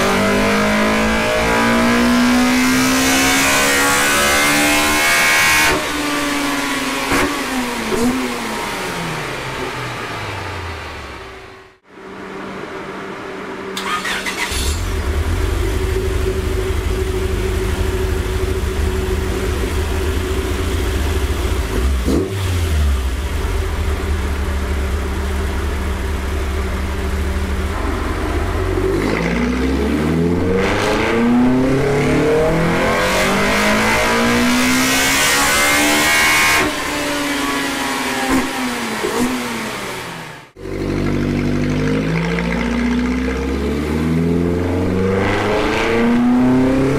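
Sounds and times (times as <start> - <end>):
four-cylinder engine revving: 0.0 - 10.9, 13.8 - 46.9.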